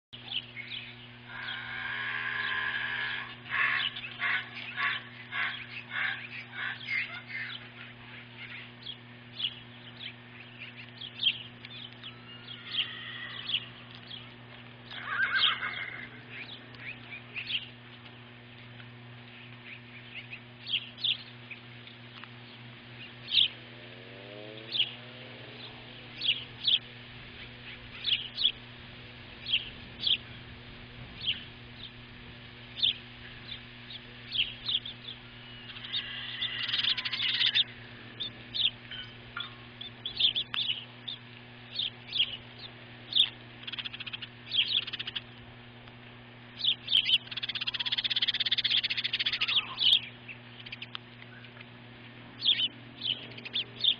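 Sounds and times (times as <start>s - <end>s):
osprey chirping: 0.2s - 18.0s, 24.6s - 32.1s, 32.7s - 45.4s, 46.5s - 51.6s.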